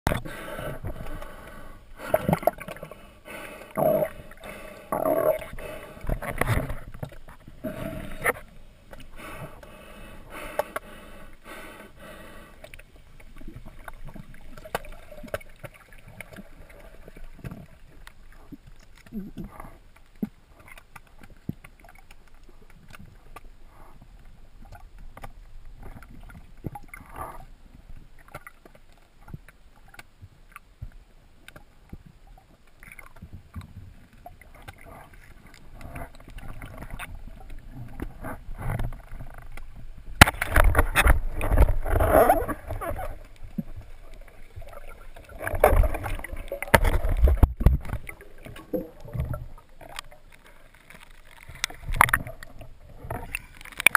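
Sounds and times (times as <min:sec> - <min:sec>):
water bubbling and rushing: 0:00.1 - 0:28.7, 0:32.5 - 0:53.9
faint underwater clicks: 0:00.1 - 0:53.9.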